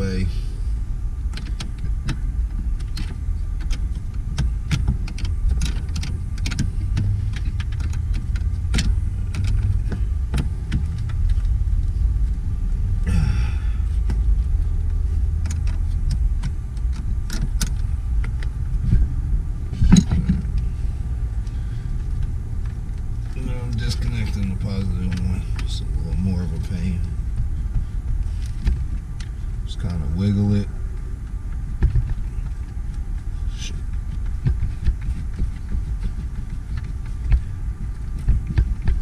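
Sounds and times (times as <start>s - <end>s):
low rumble: 0.0s - 39.0s.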